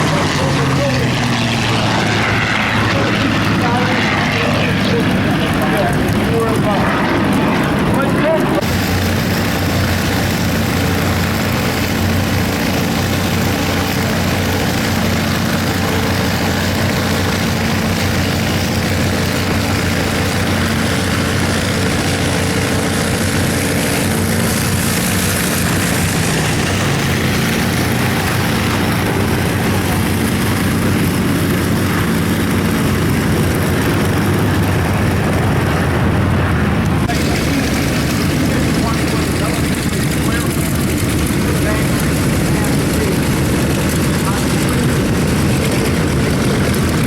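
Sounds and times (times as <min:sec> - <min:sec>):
low engine drone: 0:00.0 - 0:47.0.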